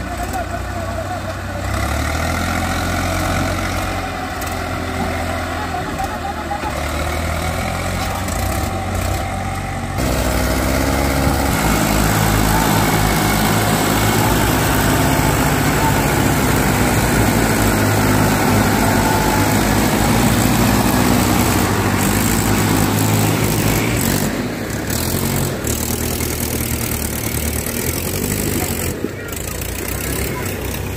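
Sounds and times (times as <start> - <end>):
tractor engines under load: 0.0 - 30.9.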